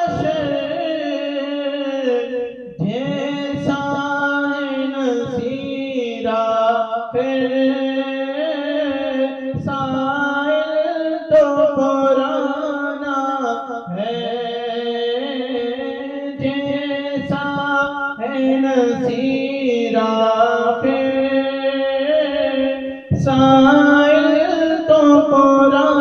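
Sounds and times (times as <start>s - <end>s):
man singing unaccompanied: 0.0s - 26.0s.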